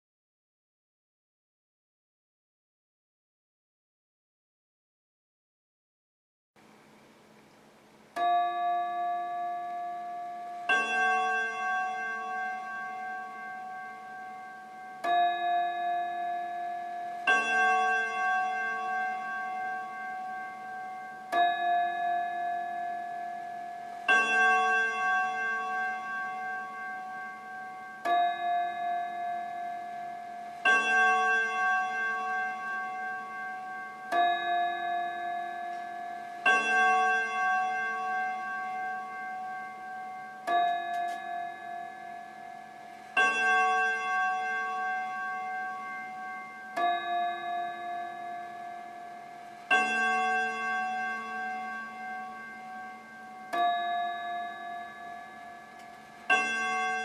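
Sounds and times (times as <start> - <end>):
wall clock chiming ding-dong: 8.1 - 57.0.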